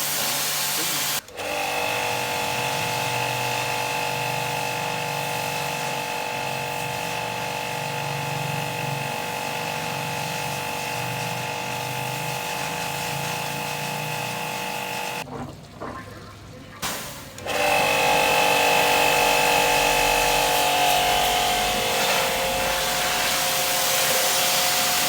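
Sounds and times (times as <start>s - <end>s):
electric motor whine and hum: 1.0s - 15.2s, 17.4s - 25.0s.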